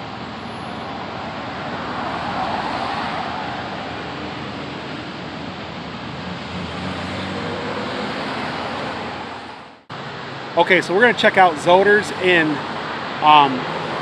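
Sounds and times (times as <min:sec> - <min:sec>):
continuous outdoor rush: 0:00.0 - 0:14.0.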